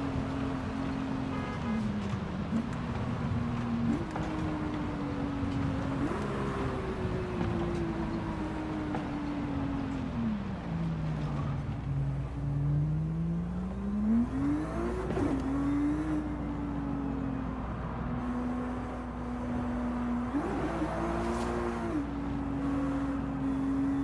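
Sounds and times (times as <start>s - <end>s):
sports car engine running: 0.0s - 24.0s.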